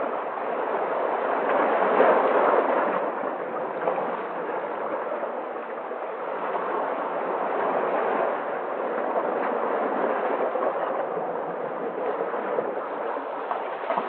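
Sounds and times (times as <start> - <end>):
sea waves surf: 0.0 - 14.0.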